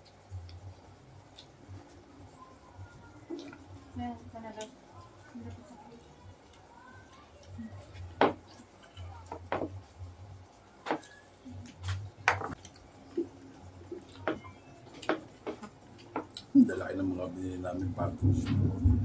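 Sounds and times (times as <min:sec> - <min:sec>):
chewing smacking: 0:00.0 - 0:02.2, 0:03.2 - 0:16.6
low steady hum: 0:00.0 - 0:19.0.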